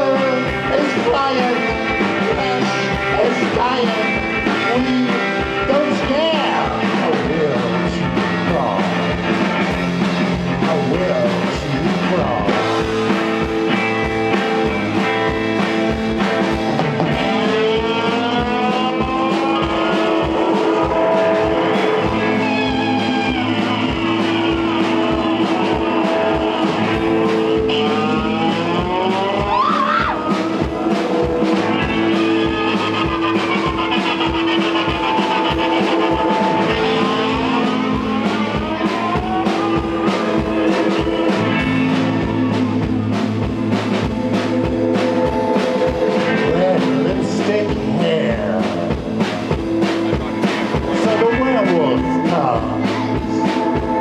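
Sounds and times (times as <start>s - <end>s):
bass guitar: 0.0s - 54.0s
drums steady beat: 0.0s - 54.0s
electric guitar bending notes: 0.0s - 54.0s.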